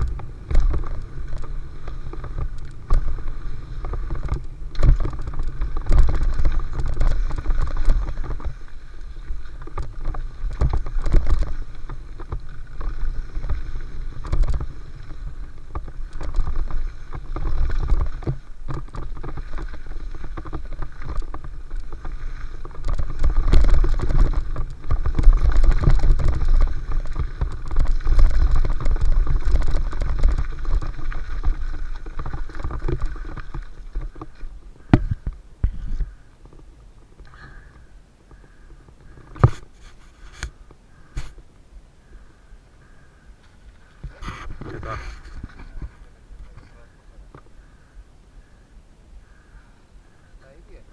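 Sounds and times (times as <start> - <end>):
bike rattling over bumps: 0.0 - 50.9
bike tyre noise on dirt: 0.0 - 50.9.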